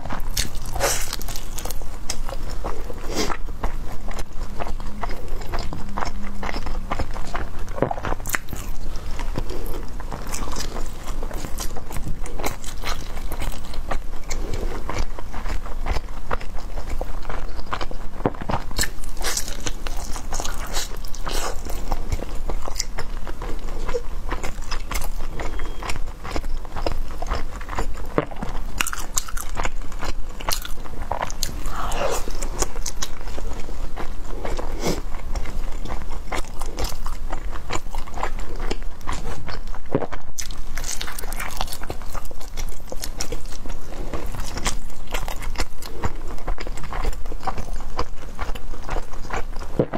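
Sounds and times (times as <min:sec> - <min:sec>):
chewing sticky food: 0:00.0 - 0:49.9.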